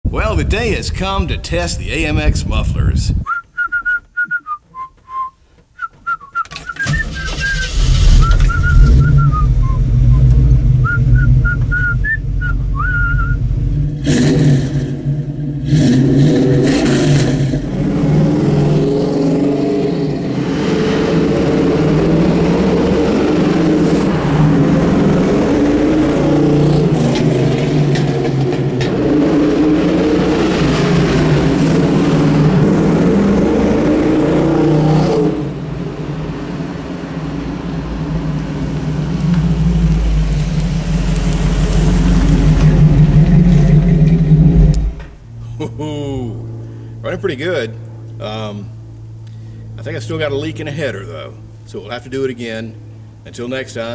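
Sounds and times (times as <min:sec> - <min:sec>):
car engine revving: 0:06.5 - 0:53.2.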